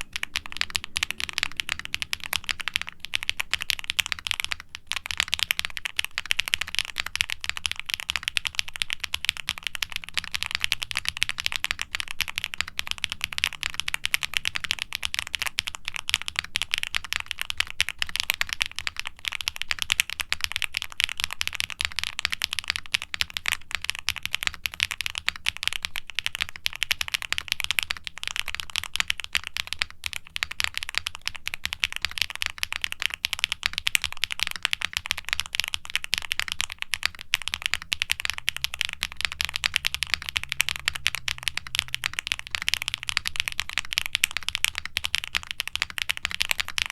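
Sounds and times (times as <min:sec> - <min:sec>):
mechanical keyboard typing: 0:00.0 - 0:46.9.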